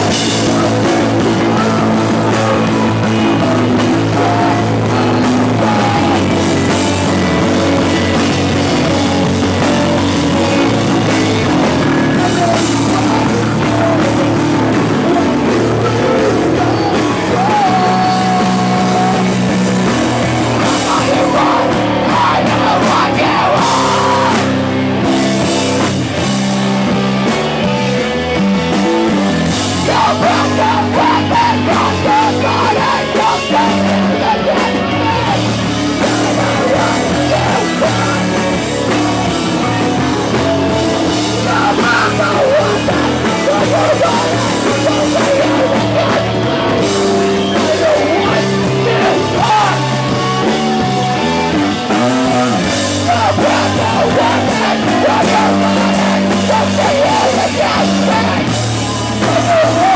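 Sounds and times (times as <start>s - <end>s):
person singing: 0.0s - 27.4s, 28.9s - 59.9s
drum kit: 0.0s - 59.9s
electric guitars: 0.0s - 59.9s.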